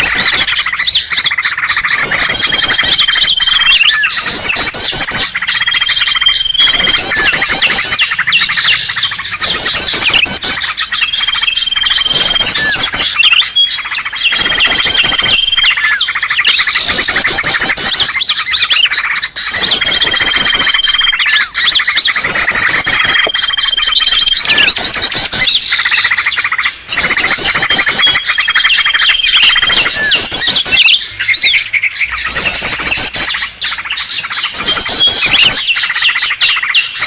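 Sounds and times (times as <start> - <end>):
bird chattering: 0.0 - 37.0
held bird whistle: 0.0 - 37.0.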